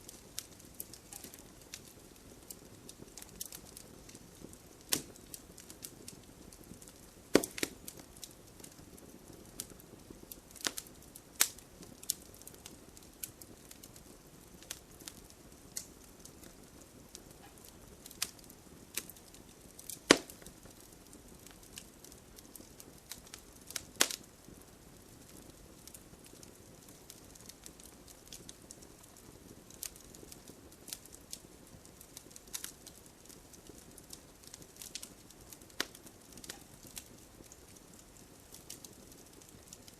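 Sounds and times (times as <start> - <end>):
low hiss of flames: 0.0 - 39.9
wood crackling and popping: 0.0 - 39.9.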